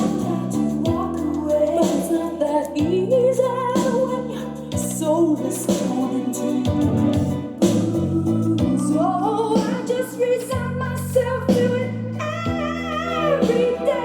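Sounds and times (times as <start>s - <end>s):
slow pop-soul song with band: 0.0s - 14.0s.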